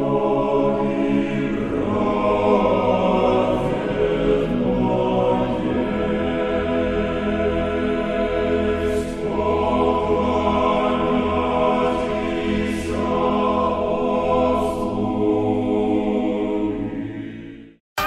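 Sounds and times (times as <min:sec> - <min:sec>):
choir singing slow chant: 0:00.0 - 0:17.8.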